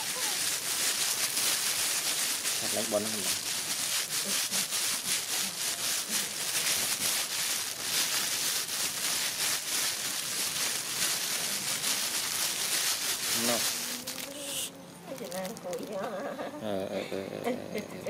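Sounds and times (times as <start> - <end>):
scuffing and rustling on plastic mat: 0.0 - 16.4.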